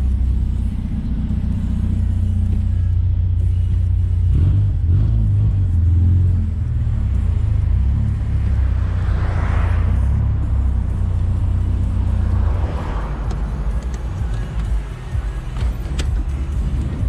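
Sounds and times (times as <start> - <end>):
car engine exhaust rumble: 0.0 - 17.0.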